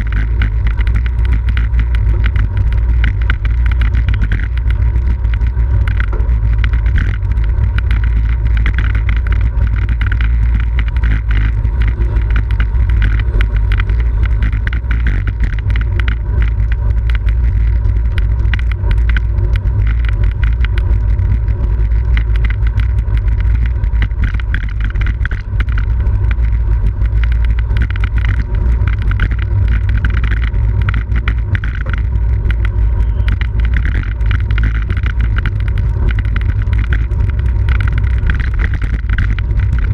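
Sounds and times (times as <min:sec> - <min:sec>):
bicycle rattling over road: 0:00.0 - 0:39.9.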